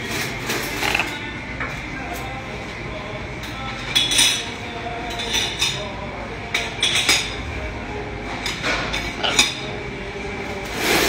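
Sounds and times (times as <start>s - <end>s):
dishes and cutlery clinking: 0.0s - 11.0s.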